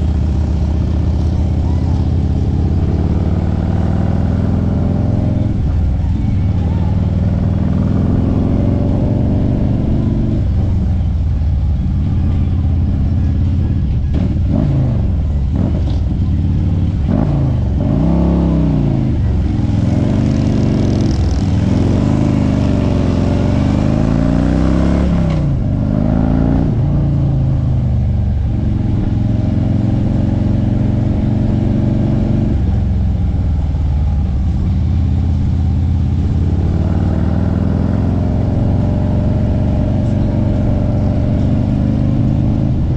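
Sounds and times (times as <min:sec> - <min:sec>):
motorcycle engine rumbling: 0:00.0 - 0:42.9.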